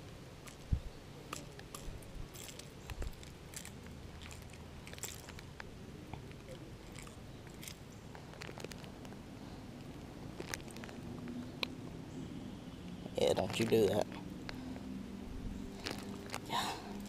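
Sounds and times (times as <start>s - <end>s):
handling clicks and crackles: 0.0s - 9.2s, 9.8s - 11.8s, 12.9s - 14.6s, 15.8s - 17.0s.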